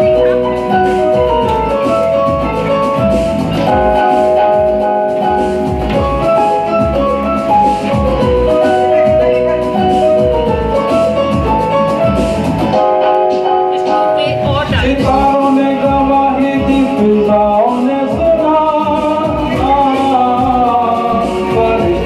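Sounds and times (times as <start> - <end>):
melody over steady beat: 0.0 - 22.0.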